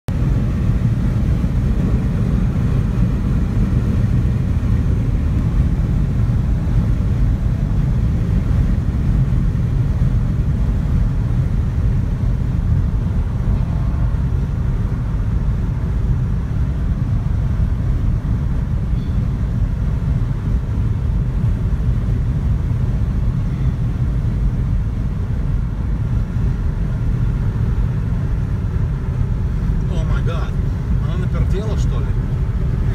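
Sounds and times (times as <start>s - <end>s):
car driving rumble inside cabin: 0.1s - 32.9s.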